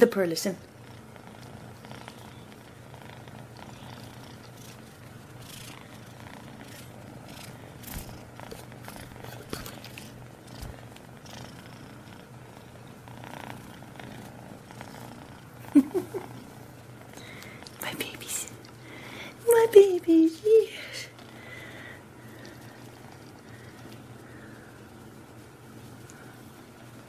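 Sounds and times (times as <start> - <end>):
kitten purring: 0.0 - 27.0.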